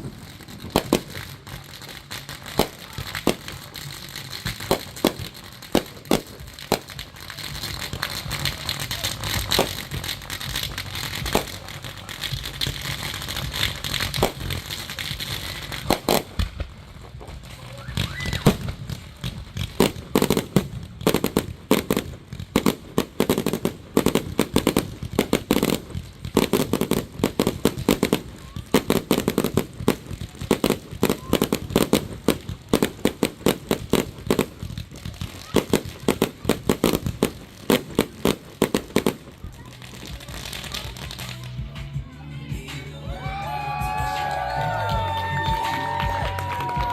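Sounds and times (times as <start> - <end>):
fireworks bangs: 0.0 - 42.0, 42.6 - 46.9
fireworks crackling: 0.0 - 46.9.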